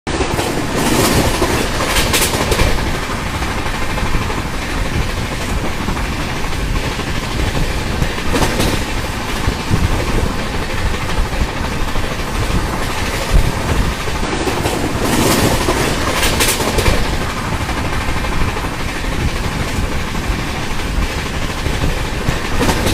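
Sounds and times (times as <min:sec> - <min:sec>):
clacks over rail joints: 0:00.1 - 0:22.9
train wheels rumbling on rails: 0:00.1 - 0:22.9.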